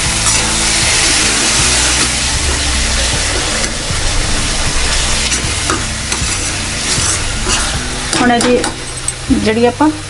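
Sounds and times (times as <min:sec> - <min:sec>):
masala sizzling in oil: 0:00.0 - 0:10.0
steady low hum: 0:00.0 - 0:10.0
steel ladle scraping pan: 0:00.1 - 0:09.2.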